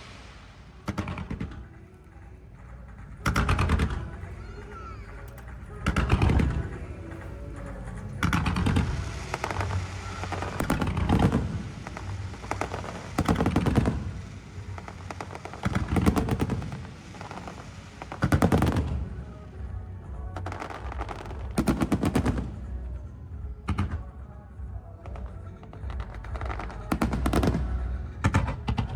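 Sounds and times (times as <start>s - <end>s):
fireworks bursting and crackling: 0.0s - 28.9s.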